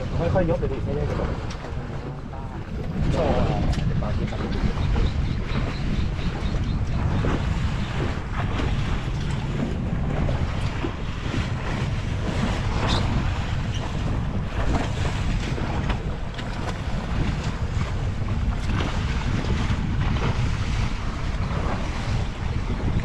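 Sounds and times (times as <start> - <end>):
waves sloshing against hull: 0.0 - 23.0
wind buffeting microphone: 0.0 - 23.0.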